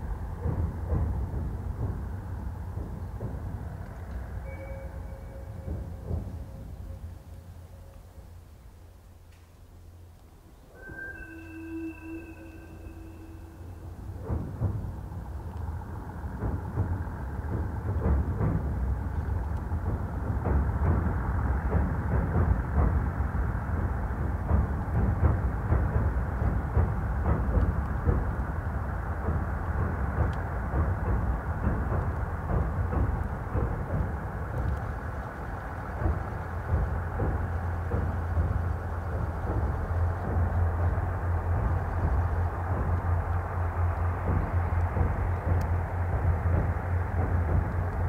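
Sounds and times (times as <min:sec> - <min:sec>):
railcar engine drone: 0:00.0 - 0:48.0
train wheels clattering: 0:00.0 - 0:48.0.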